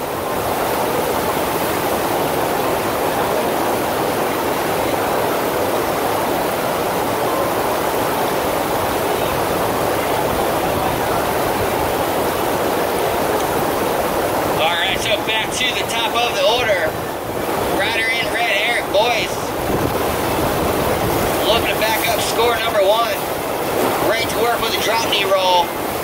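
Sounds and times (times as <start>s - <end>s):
water rushing over wave machine: 0.0s - 26.0s.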